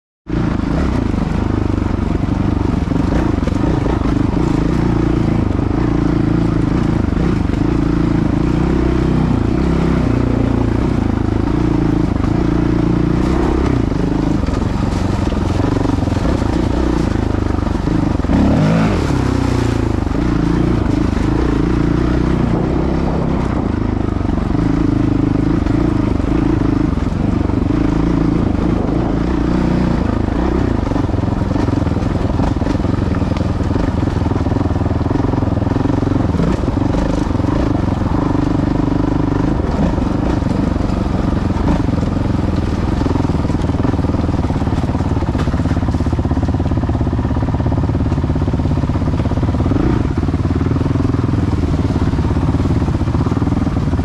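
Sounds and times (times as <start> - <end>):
dirt bike engine revving: 0.3 - 47.8, 48.4 - 54.0.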